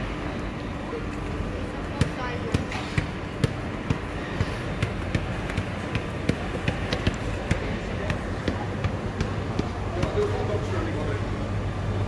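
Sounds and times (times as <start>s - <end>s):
warehouse store hum: 0.0s - 12.0s.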